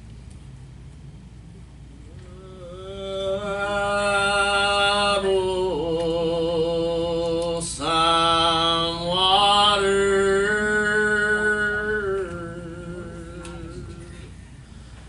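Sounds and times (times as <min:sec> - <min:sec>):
low steady hum: 0:00.0 - 0:15.0
person singing long notes: 0:02.2 - 0:14.3.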